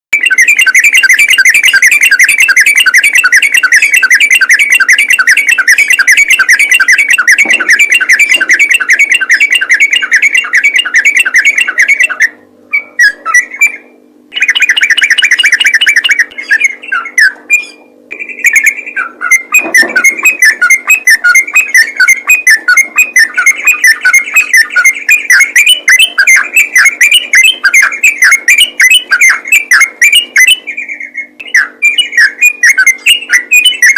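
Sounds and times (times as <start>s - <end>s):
bird singing rapid chirps: 0.1s - 33.9s
faint steady hum: 0.2s - 33.9s.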